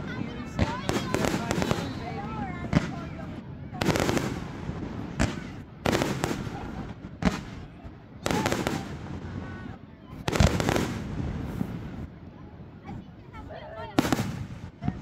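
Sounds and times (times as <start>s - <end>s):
fireworks bangs with rumble: 0.0s - 12.1s, 13.9s - 15.0s.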